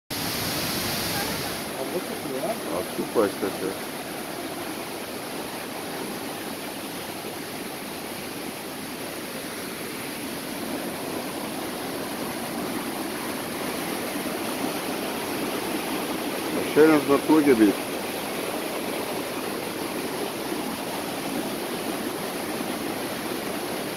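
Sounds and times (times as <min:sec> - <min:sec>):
small waterfall rushing: 0:00.1 - 0:23.9.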